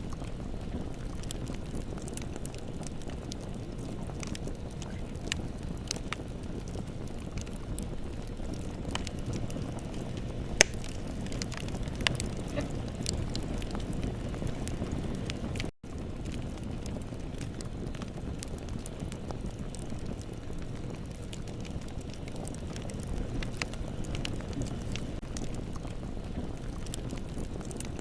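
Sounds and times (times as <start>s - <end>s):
bonfire crackling and popping: 0.0s - 28.0s.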